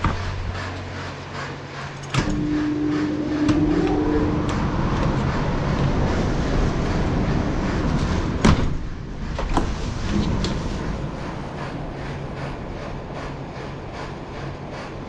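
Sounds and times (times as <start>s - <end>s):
rushing workshop noise: 0.0s - 15.0s.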